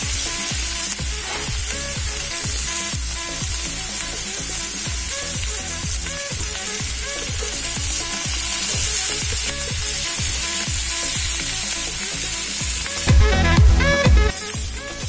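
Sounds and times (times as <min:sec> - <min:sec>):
fish sizzling in hot oil: 0:00.0 - 0:13.1, 0:14.3 - 0:15.0
background music with steady beat: 0:00.0 - 0:15.0.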